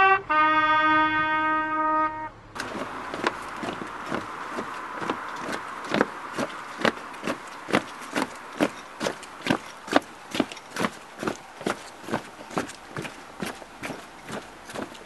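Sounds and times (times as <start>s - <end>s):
marching footsteps on paving: 2.6s - 15.0s.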